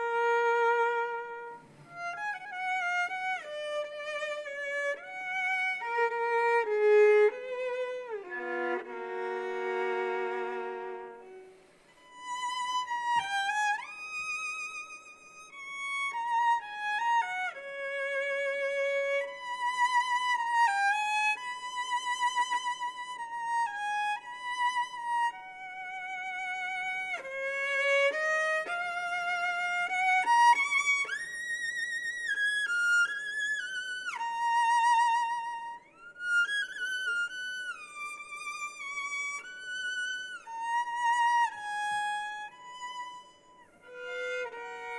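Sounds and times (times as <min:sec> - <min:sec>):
solo violin melody: 0:00.0 - 0:44.9.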